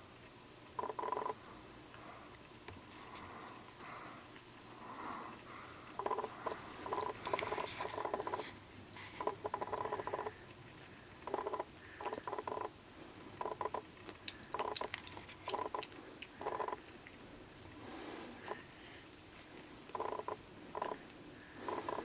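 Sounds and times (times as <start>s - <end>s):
kitten suckling from bottle: 0.7s - 1.4s, 2.3s - 22.0s.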